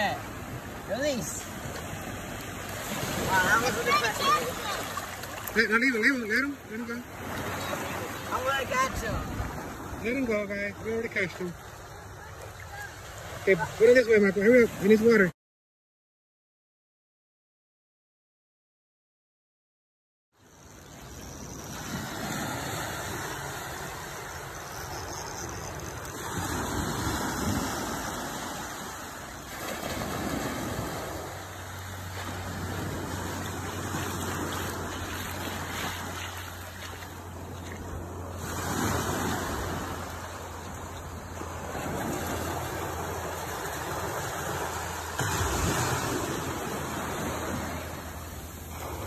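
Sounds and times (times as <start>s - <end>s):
ocean surf breaking: 0.0s - 15.3s, 21.2s - 49.0s.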